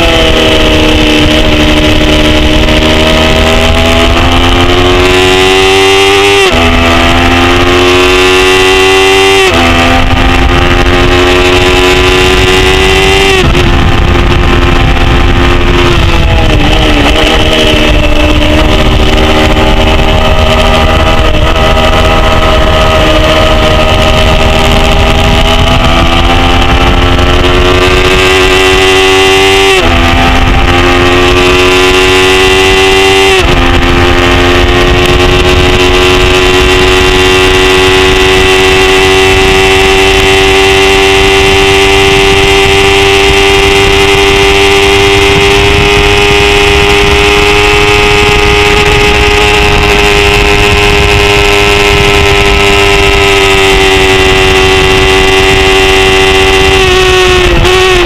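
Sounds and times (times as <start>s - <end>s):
motorcycle engine at high revs: 0.0s - 58.0s
wind rushing on microphone: 0.0s - 58.0s.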